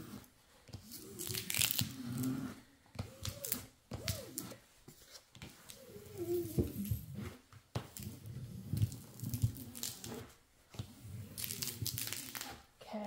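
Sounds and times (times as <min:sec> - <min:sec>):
plastic scraper rubbing on film: 0:00.0 - 0:12.7.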